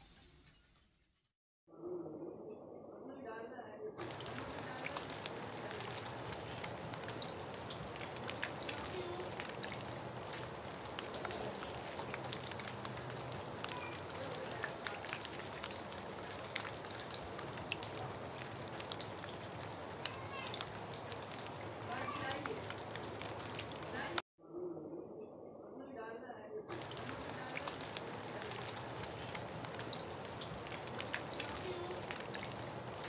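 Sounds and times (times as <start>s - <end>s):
rain hissing: 4.0s - 24.2s, 26.7s - 33.0s
raindrops ticking in puddle: 4.0s - 24.2s, 26.7s - 33.0s.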